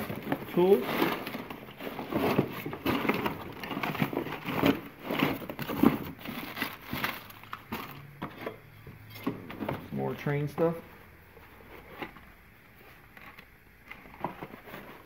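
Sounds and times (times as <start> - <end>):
items knocking: 0.0 - 10.8, 13.1 - 15.0
plastic and cardboard crinkling: 0.0 - 10.8, 11.4 - 15.0.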